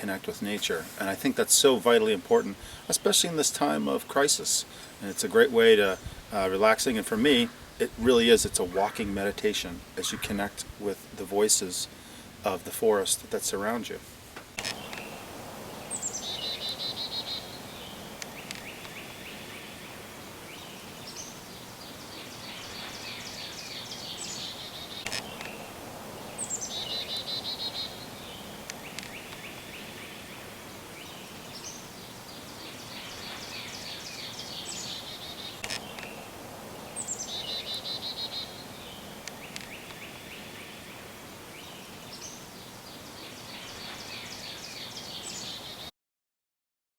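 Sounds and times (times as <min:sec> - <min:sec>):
songbirds trilling: 0:00.0 - 0:14.0, 0:14.6 - 0:45.9
faint outdoor background hiss: 0:00.0 - 0:45.9.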